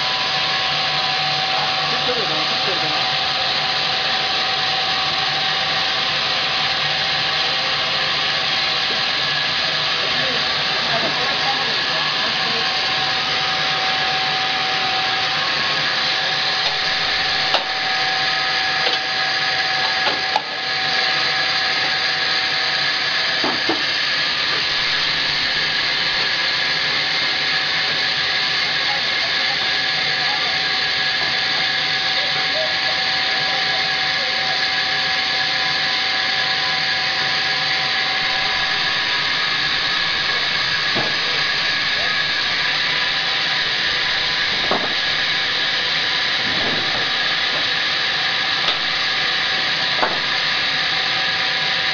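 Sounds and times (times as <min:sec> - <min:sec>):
saw cutting log: 0:00.0 - 0:51.9.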